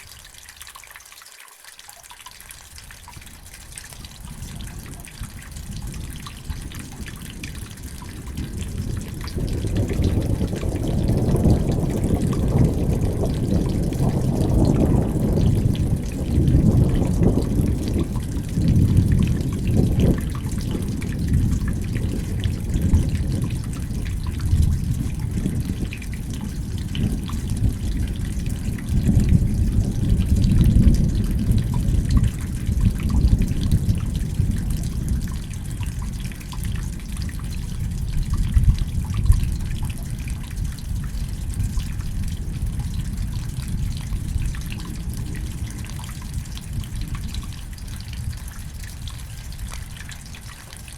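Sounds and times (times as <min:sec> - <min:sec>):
rain falling and dripping: 0:00.0 - 0:50.9.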